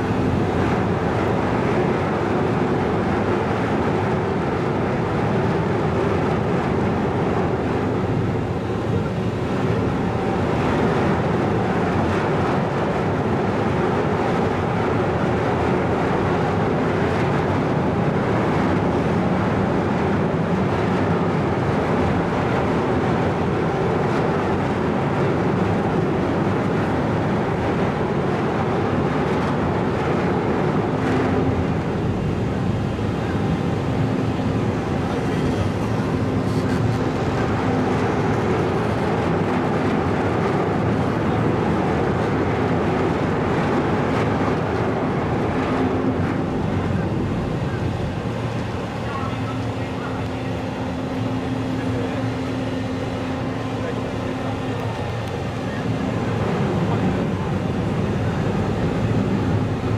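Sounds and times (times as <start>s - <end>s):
ferry engines droning: 0.0s - 59.9s.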